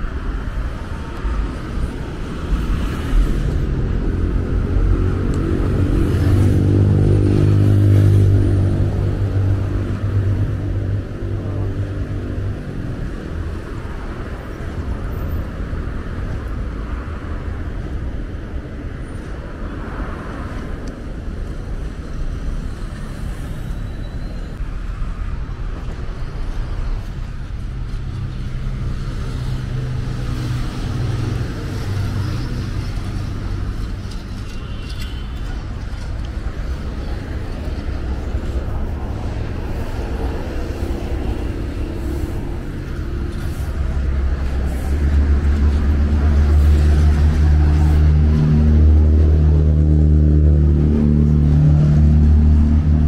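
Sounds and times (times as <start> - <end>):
highway traffic passing: 0.0 - 53.0.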